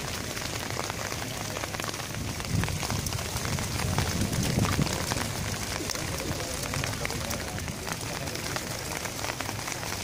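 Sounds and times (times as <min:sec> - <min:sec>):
rain drops ticking: 0:00.0 - 0:10.0.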